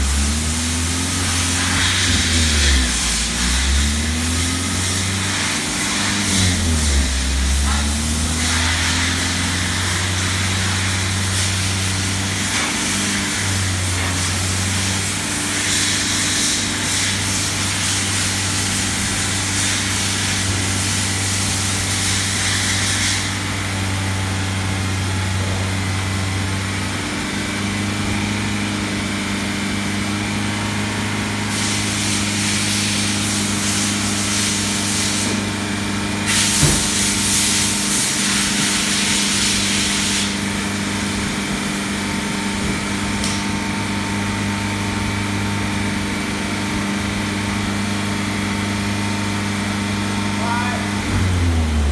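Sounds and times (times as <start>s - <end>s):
car engine drone and hiss: 0.0s - 51.9s.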